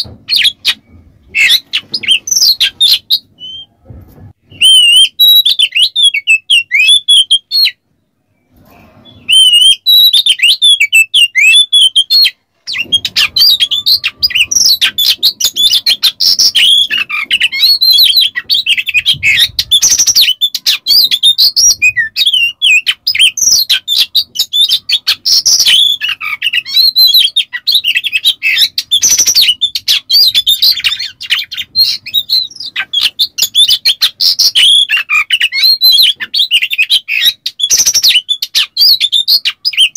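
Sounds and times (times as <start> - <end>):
bird song with whistles and rasps: 0.0 - 3.8, 4.4 - 39.9.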